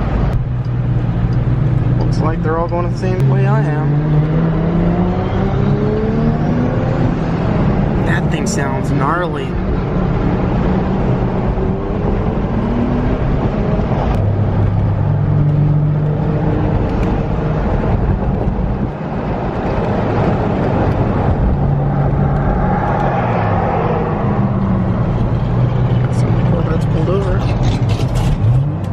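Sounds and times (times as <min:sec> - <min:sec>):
cars driving at speed: 0:00.0 - 0:28.9
engine note rising: 0:00.4 - 0:28.8.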